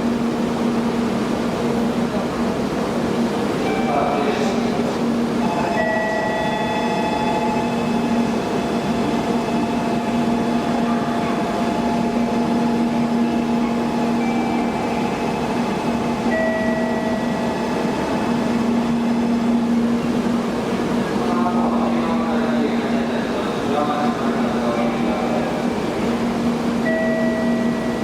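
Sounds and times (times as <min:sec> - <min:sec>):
train rumble and hum: 0:00.0 - 0:28.0.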